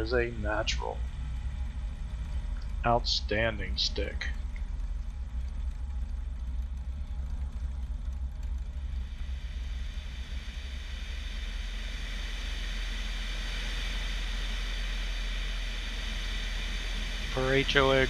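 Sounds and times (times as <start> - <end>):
airplane engine and propeller: 0.0 - 18.0.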